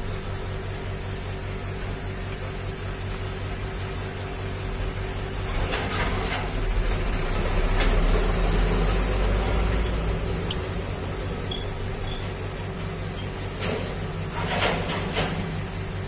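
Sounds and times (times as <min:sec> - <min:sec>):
machinery hum and rumble: 0:00.0 - 0:16.0.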